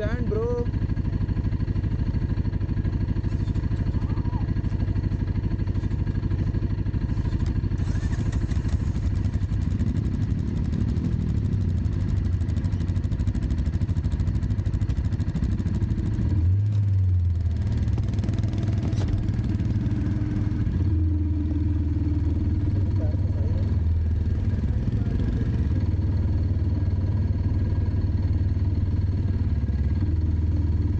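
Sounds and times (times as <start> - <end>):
dirt bike engine running: 0.0 - 30.9.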